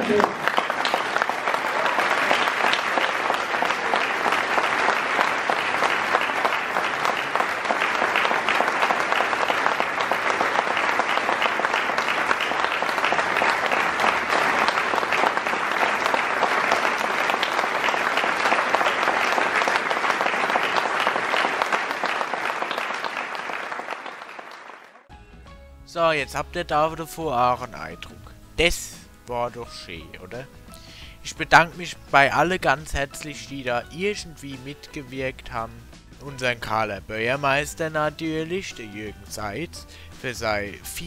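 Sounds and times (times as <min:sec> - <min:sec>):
audience applauding: 0:00.0 - 0:25.1, 0:29.3 - 0:41.0.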